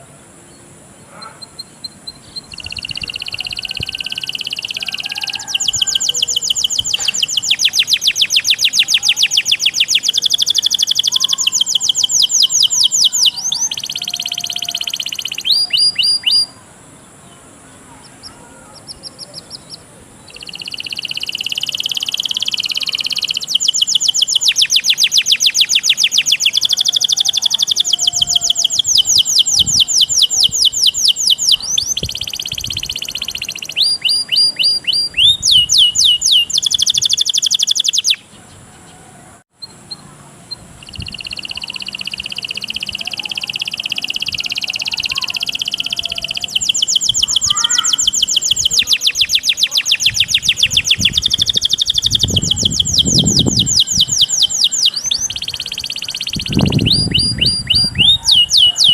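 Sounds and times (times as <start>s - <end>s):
songbirds trilling: 0.0s - 58.9s.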